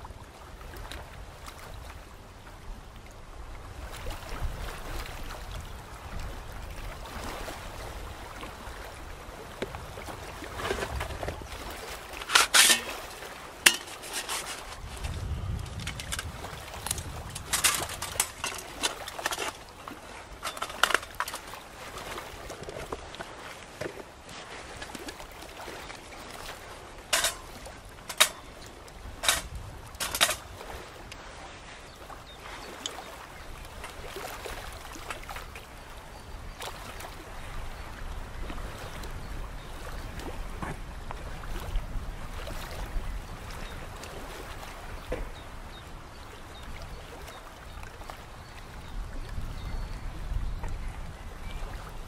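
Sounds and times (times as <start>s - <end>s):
small waves lapping: 0.0s - 52.0s.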